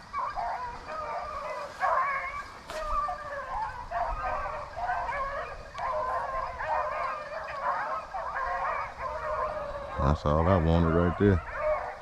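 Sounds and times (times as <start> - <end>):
pack of hounds baying: 0.0 - 12.0.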